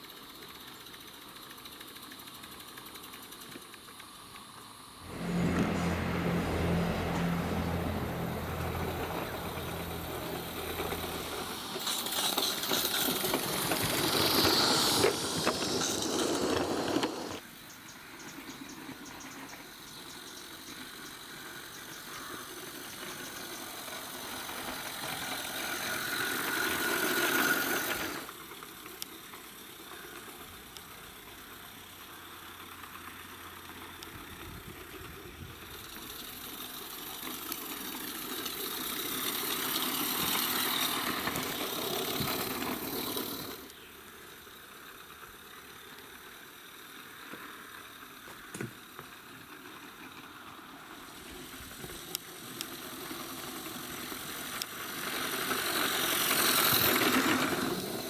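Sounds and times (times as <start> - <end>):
model locomotives rattling on track: 0.0 - 58.0.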